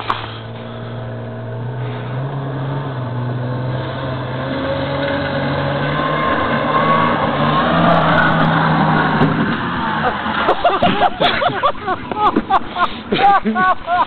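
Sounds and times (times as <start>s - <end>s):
snowmobile engine running: 0.0s - 14.0s.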